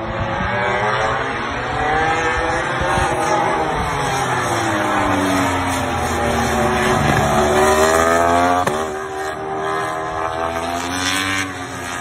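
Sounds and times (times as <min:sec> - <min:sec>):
motorcycle accelerating hard: 0:00.0 - 0:12.0.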